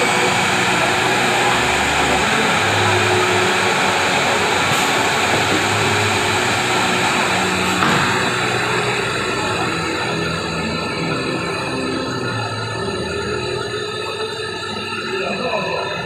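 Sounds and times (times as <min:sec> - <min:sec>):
milling machine whirring hiss: 0:00.0 - 0:16.0.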